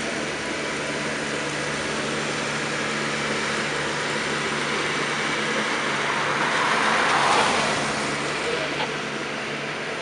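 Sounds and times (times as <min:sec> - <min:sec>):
diesel engines humming: 0:00.0 - 0:10.0.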